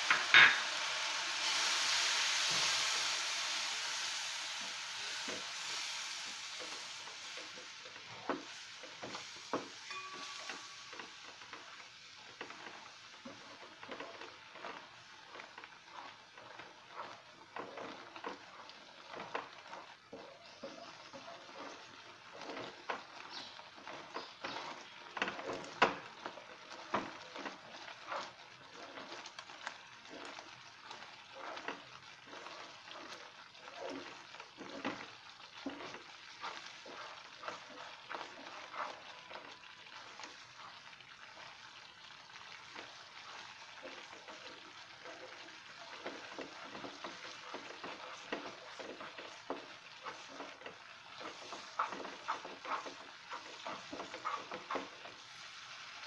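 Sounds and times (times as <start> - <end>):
milk mixture sizzling and bubbling: 0.0 - 56.0
spatula scraping a pan: 3.6 - 56.0.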